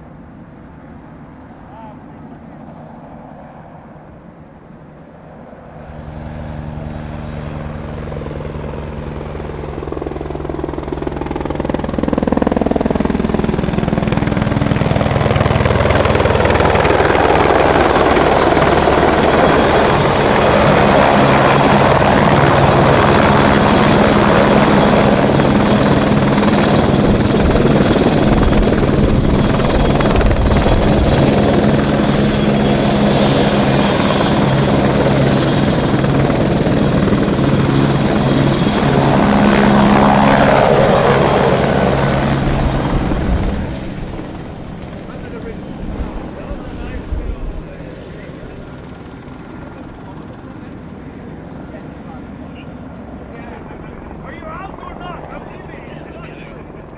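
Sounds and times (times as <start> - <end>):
helicopter rotors beating: 0.0 - 56.9
high turbine whine: 10.9 - 56.9.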